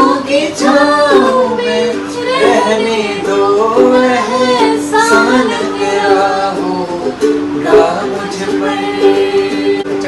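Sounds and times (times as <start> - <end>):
strummed ukulele: 0.0 - 10.0
woman singing: 0.0 - 10.0.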